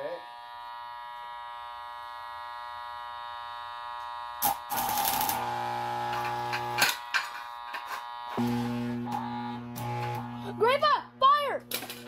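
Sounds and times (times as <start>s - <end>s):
transformer buzzing: 0.3s - 12.0s
welding arc crackling and sizzling: 0.9s - 12.0s.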